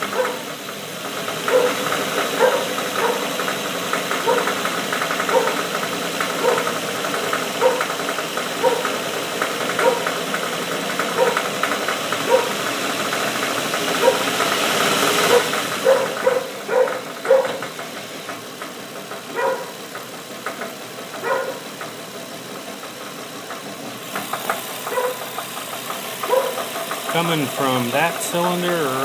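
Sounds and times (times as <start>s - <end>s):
car engine running: 0.0s - 29.0s
rapid engine ticking knock: 0.0s - 29.0s.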